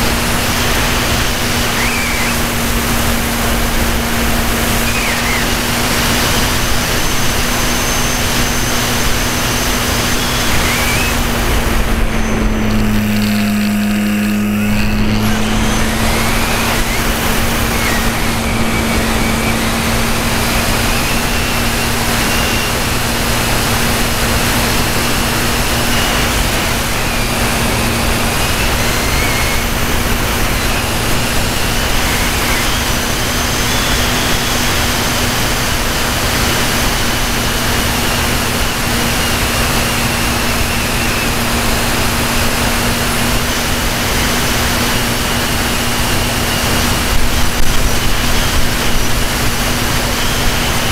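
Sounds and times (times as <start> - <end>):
model airplane motor whine: 0.0 - 50.9
wind noise: 0.0 - 50.9.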